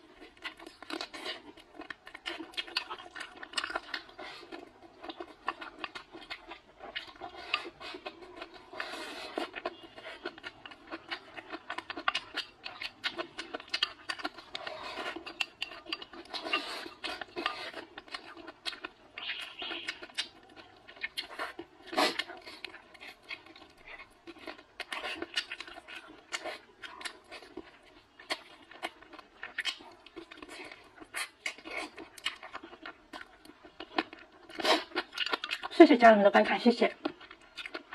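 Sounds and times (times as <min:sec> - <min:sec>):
slurping and chewing: 0:00.0 - 0:35.9, 0:36.9 - 0:37.9.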